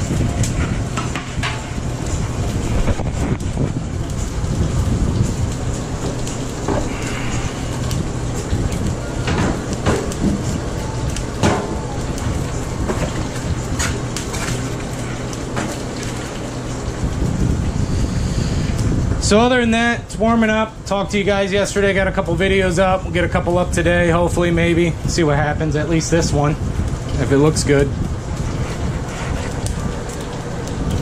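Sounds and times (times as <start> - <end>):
low machine hum: 0.0 - 31.0
wood fire crackling and popping: 0.0 - 31.0.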